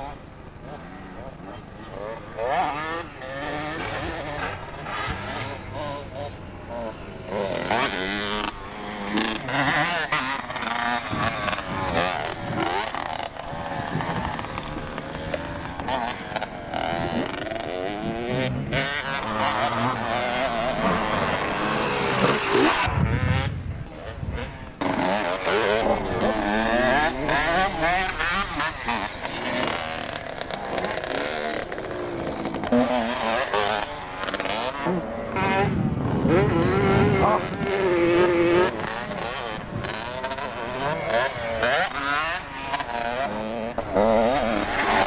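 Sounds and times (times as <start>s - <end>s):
motocross bike engine revving: 0.0s - 45.0s.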